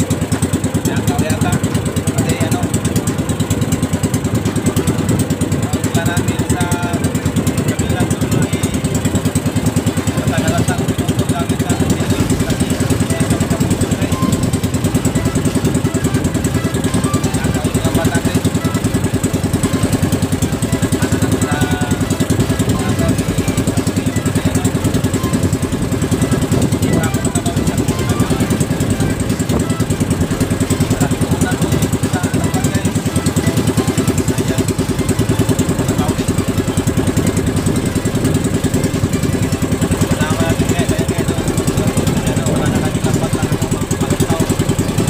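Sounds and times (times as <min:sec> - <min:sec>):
boat engine pulsing: 0:00.0 - 0:45.0.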